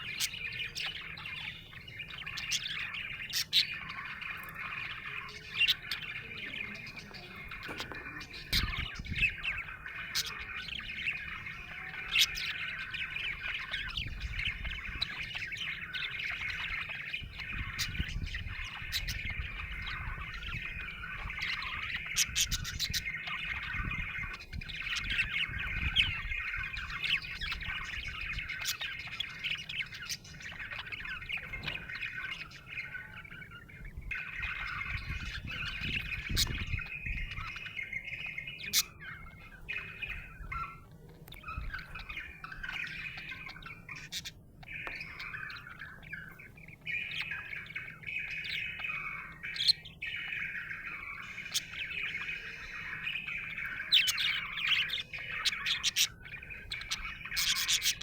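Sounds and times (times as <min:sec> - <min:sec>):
budgerigar chattering and warbling: 0:00.0 - 0:58.0.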